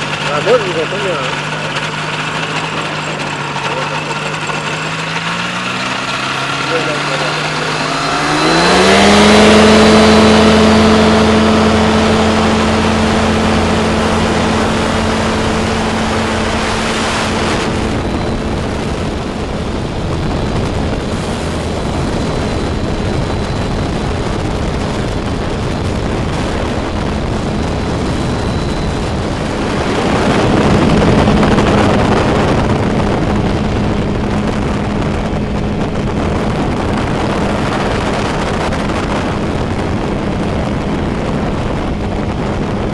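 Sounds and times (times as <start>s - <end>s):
microlight engine at full power: 0.0s - 42.9s
wind rushing over microphone: 0.0s - 42.9s.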